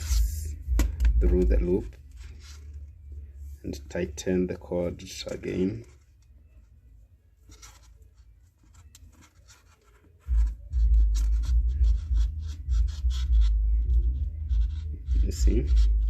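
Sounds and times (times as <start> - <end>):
cord rubbing and rasping: 0.0 - 16.0.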